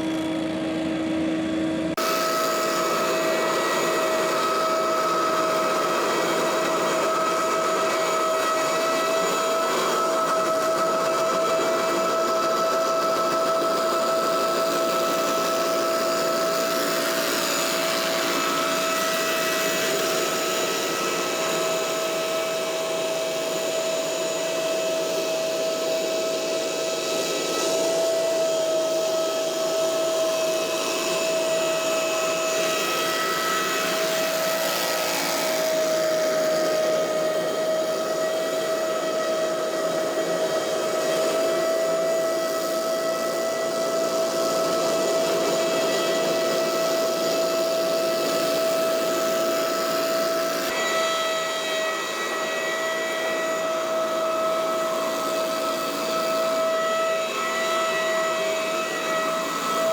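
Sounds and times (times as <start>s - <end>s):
leaf blower whine: 0.0s - 59.9s.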